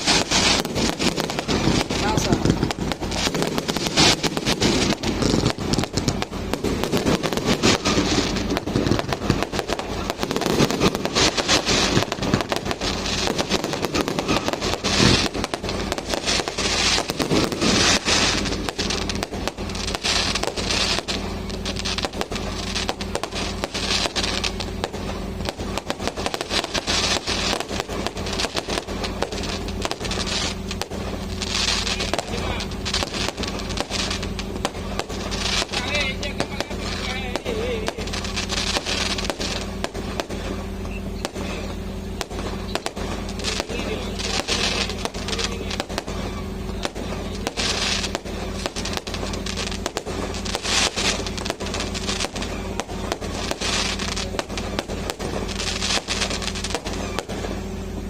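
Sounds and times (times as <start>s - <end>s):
firecrackers popping: 0.0s - 58.0s.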